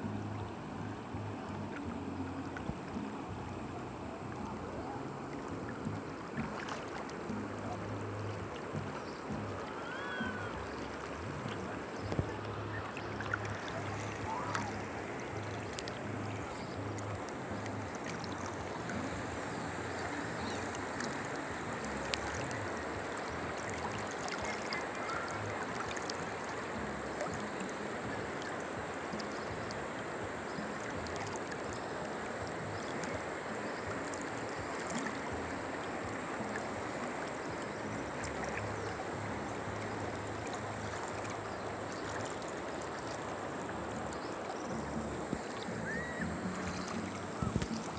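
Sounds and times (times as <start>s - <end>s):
fast-flowing river rushing: 0.0s - 47.9s.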